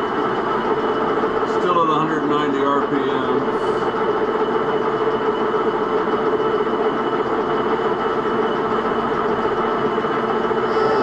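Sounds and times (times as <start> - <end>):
metal lathe droning: 0.0 - 11.0.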